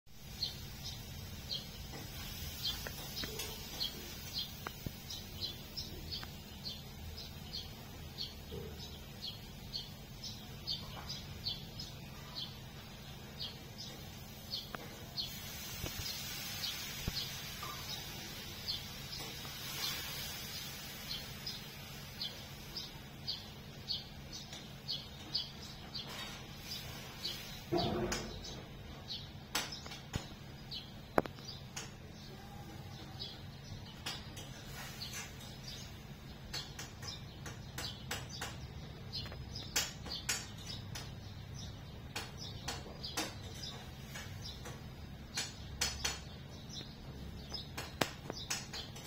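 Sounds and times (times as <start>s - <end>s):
small bird chirping: 0.2s - 49.0s.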